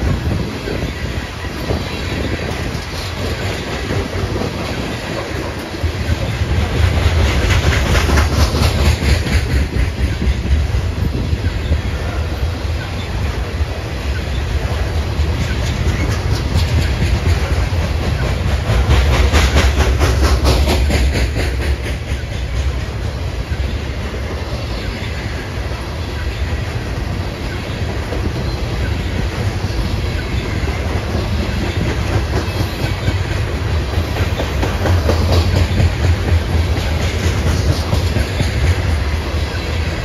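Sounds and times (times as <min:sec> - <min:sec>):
low train rumble: 0:00.0 - 0:40.0
wheels clicking over rail joints: 0:00.0 - 0:40.0.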